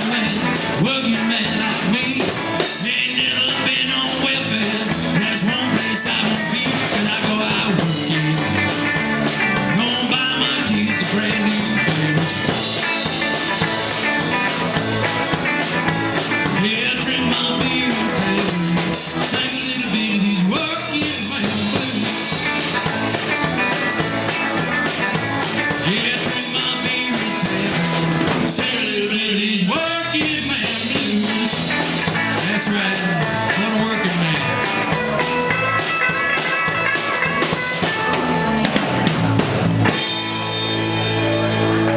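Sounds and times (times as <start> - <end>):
person singing: 0.0 - 14.9, 16.1 - 38.6
drum kit: 0.0 - 41.9
electric guitar: 0.0 - 41.9.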